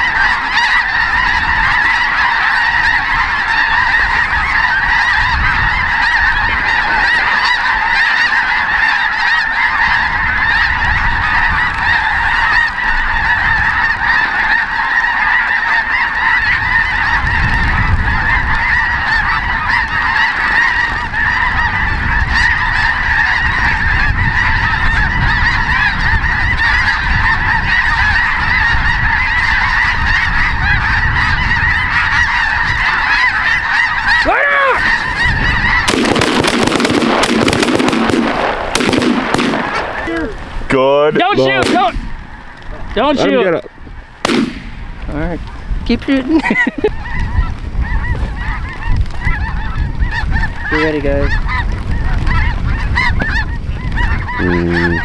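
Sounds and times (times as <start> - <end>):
geese honking: 0.0 - 55.0.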